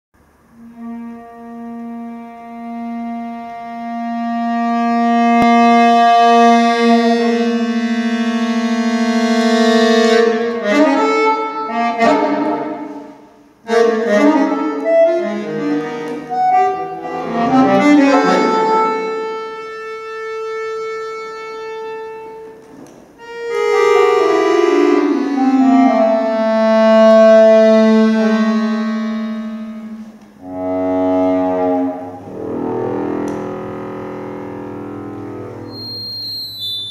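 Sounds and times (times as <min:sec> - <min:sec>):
solo accordion playing: 0:00.5 - 0:22.6, 0:23.2 - 0:36.0.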